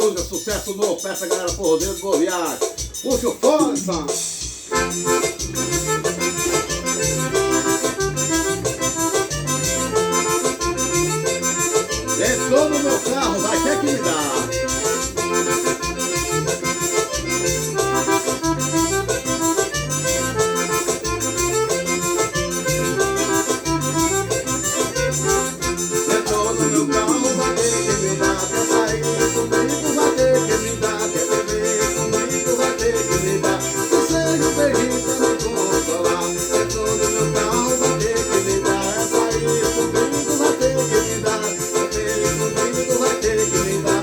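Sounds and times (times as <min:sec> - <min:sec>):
accordion melody: 0:00.0 - 0:44.0
steady beat: 0:00.0 - 0:44.0
bass line: 0:04.7 - 0:44.0.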